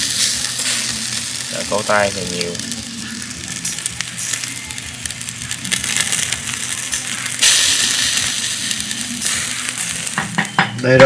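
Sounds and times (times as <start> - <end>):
fat crackling and popping on coals: 0.0 - 11.0
fish grilling over charcoal: 0.0 - 11.0.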